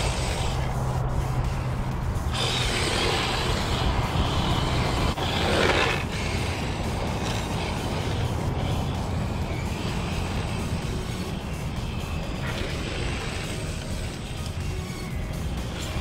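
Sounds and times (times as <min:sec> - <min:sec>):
rc car drifting on asphalt: 0:00.0 - 0:16.0.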